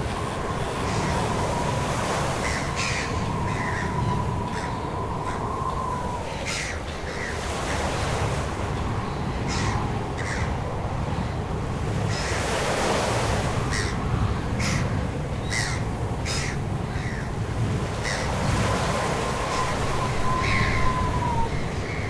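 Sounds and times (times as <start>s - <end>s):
harsh bird calls: 0.3s - 8.0s, 9.2s - 10.7s, 13.6s - 22.0s.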